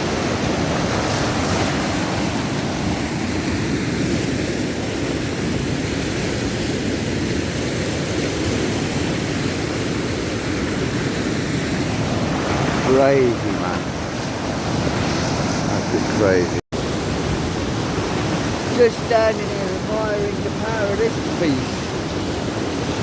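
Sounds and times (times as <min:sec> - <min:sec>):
floodwater roaring: 0:00.0 - 0:23.0.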